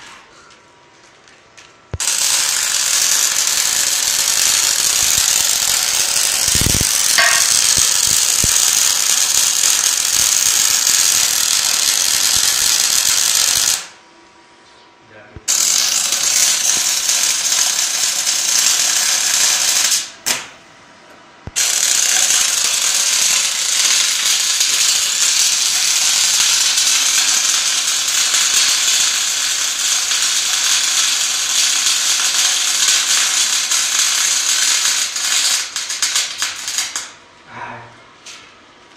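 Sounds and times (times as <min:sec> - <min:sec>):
welding arc crackling: 0:01.9 - 0:14.0, 0:15.4 - 0:20.5, 0:21.4 - 0:37.2.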